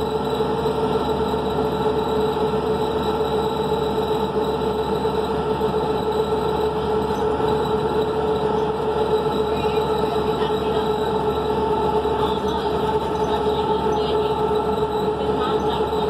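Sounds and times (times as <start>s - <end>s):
bus drivetrain drone and whine: 0.0s - 16.0s
road and tyre noise: 0.0s - 16.0s.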